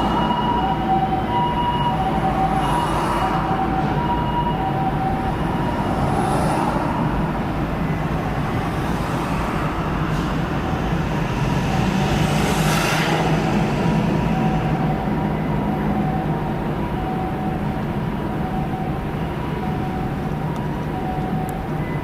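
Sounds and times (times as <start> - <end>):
two-tone ambulance siren: 0.0 - 11.1, 11.7 - 22.0
road traffic and engine noise: 0.0 - 22.0.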